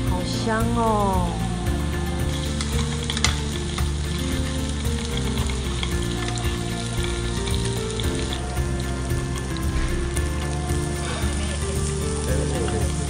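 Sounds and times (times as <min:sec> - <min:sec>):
background music: 0:00.0 - 0:13.0
meat sizzling on grill plate: 0:00.0 - 0:13.0
metal spoon stirring: 0:01.6 - 0:13.0.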